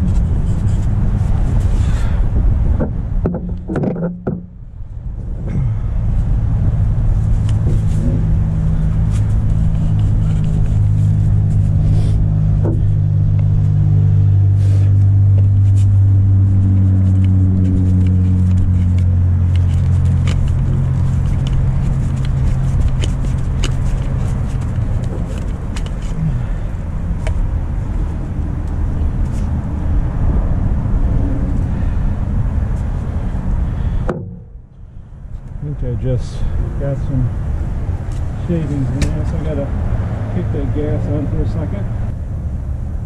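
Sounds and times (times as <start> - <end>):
low rumble: 0.0 - 40.5
engine running: 0.0 - 43.0.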